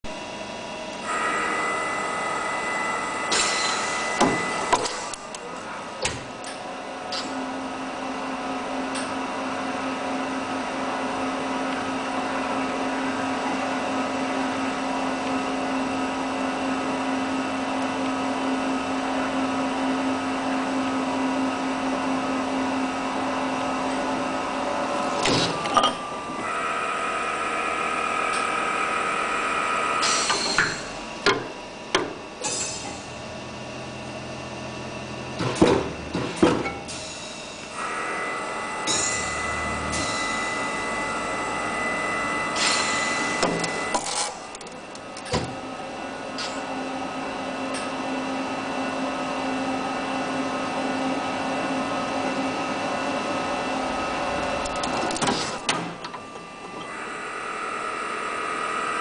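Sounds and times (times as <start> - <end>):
low machine hum: 0.1 - 59.0
machine whine: 0.1 - 59.0.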